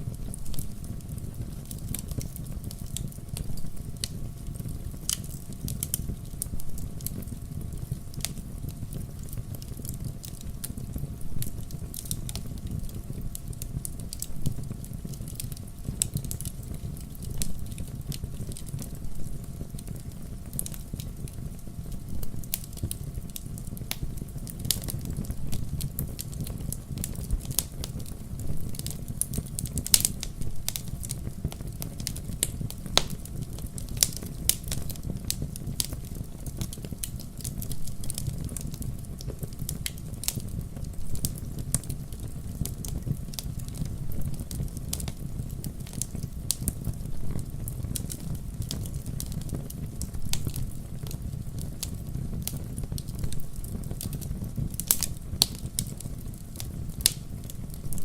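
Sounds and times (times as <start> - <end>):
fire crackling and popping: 0.0 - 58.0
wood fire low rumble: 0.0 - 58.0.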